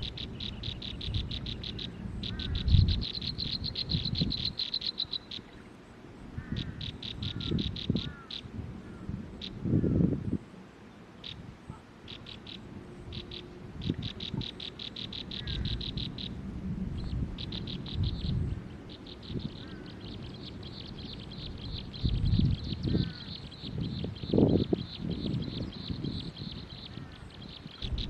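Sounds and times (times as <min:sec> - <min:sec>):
small birds chirping: 0:00.0 - 0:16.4, 0:17.0 - 0:28.0.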